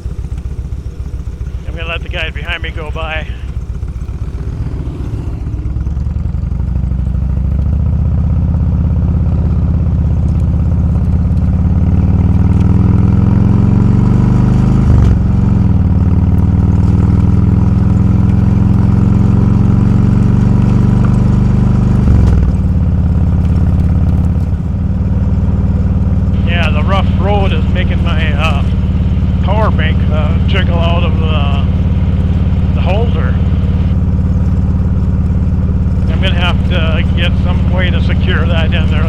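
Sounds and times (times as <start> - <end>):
motorcycle engine shifting gears: 0.0 - 39.0.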